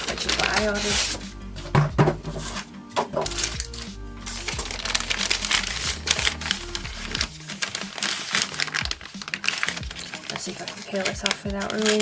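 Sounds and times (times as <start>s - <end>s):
background music: 0.0s - 12.0s
packaging crinkling and rustling: 0.0s - 12.0s.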